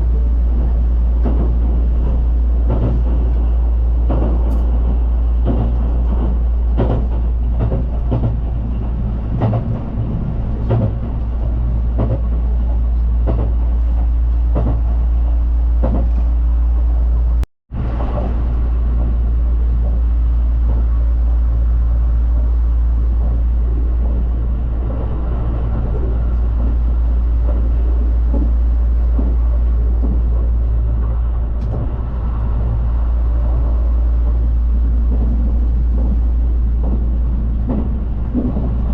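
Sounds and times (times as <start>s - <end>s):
wheels clacking and knocking: 0.0s - 16.9s, 17.8s - 38.9s
train rumbling on rails: 0.0s - 38.9s.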